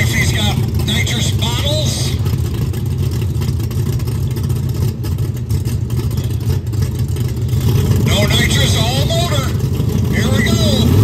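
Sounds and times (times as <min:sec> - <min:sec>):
big engine rumbling: 0:00.0 - 0:11.0.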